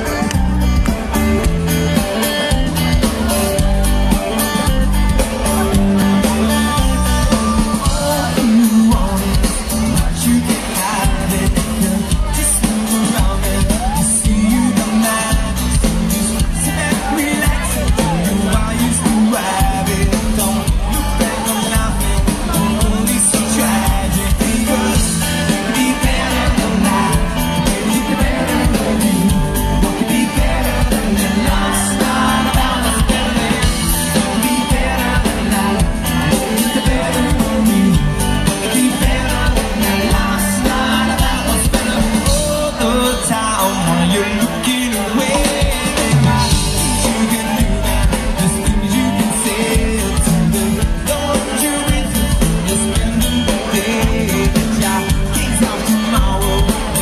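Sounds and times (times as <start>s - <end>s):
drum kit: 0.0s - 57.0s
live band playing: 0.0s - 57.0s
person singing: 0.0s - 57.0s
upright double bass: 0.0s - 57.0s.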